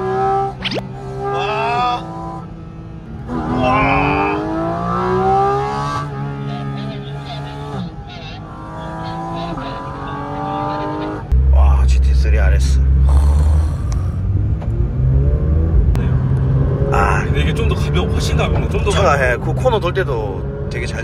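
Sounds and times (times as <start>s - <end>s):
car engine accelerating hard: 0.0s - 11.6s, 12.6s - 21.0s.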